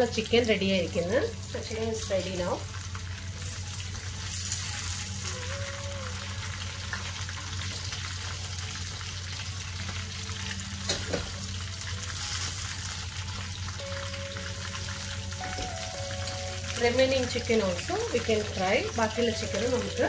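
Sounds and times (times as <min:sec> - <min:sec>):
chicken deep-frying sizzle: 0:00.0 - 0:20.0.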